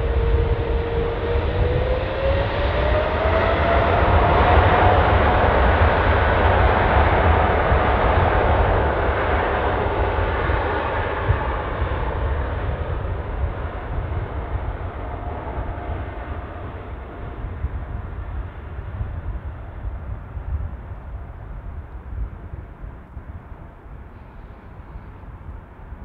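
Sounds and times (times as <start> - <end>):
jet engines at takeoff power: 0.0 - 26.0.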